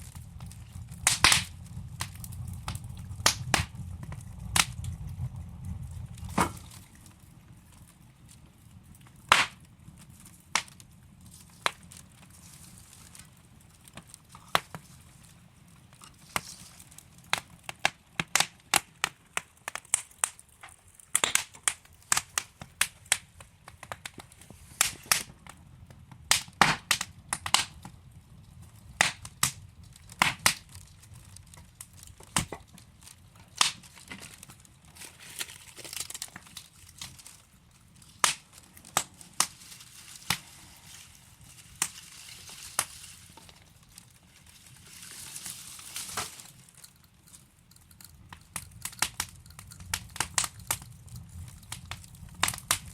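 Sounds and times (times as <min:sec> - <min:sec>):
low rumble of flame: 0:00.0 - 0:52.9
wood fire crackling: 0:00.0 - 0:52.9.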